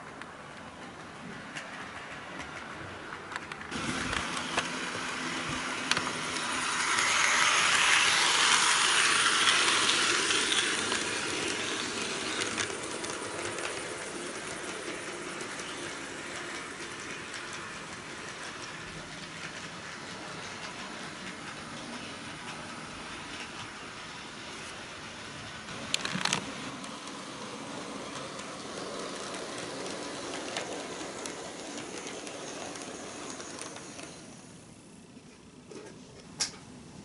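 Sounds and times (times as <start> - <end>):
model train wheels rumbling: 0.0 - 36.6.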